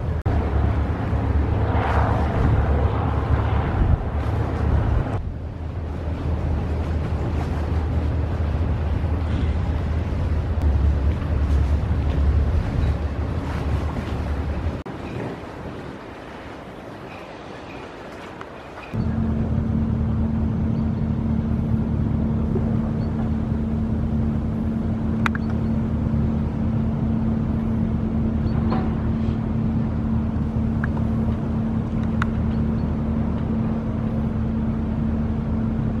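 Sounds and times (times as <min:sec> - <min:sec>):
large engine droning: 0:00.0 - 0:14.8, 0:18.9 - 0:36.0.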